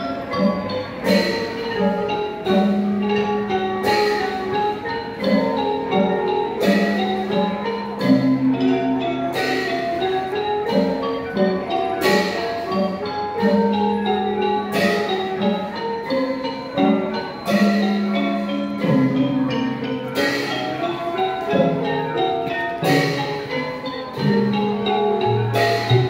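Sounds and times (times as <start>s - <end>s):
xylophone and gong melody: 0.0s - 26.0s.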